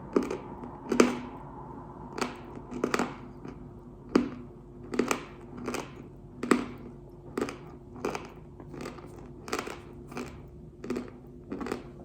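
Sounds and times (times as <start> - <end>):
chalk crunching while chewed: 0.1 - 1.4, 2.1 - 12.0.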